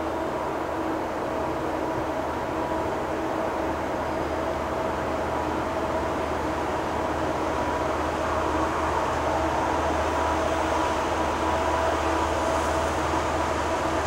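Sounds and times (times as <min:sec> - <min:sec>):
distant diesel locomotives rumbling: 0:00.0 - 0:14.0.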